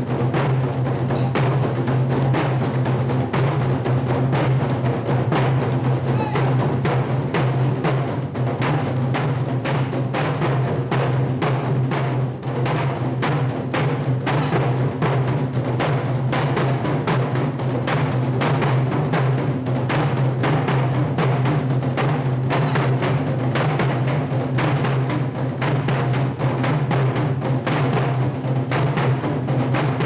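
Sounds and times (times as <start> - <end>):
percussion ensemble drumming: 0.0 - 30.0.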